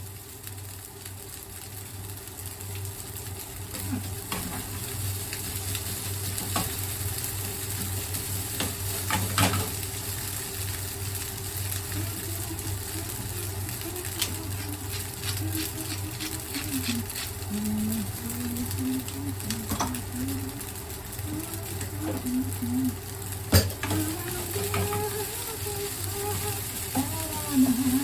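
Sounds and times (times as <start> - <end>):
rice sizzling in a pan: 0.0 - 28.0
steady low hum: 2.8 - 28.0.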